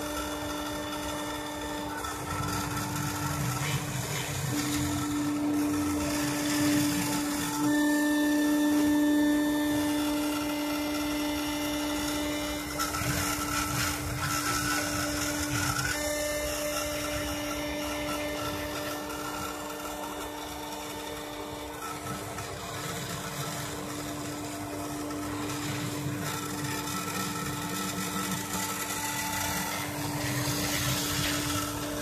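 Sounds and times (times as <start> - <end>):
rotary tool motor hum: 0.0 - 32.0
stepper motors whining: 0.0 - 32.0.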